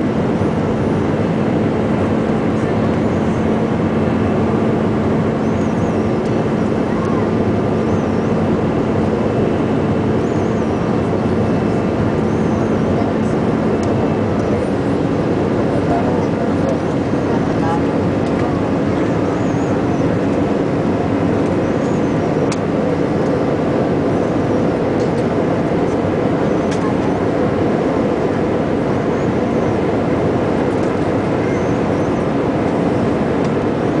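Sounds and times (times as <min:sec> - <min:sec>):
jet engines droning: 0:00.0 - 0:34.0.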